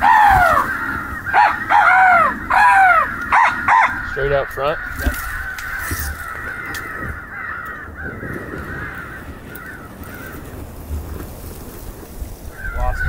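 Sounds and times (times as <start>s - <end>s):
crows cawing: 0.0s - 11.5s, 12.4s - 13.0s.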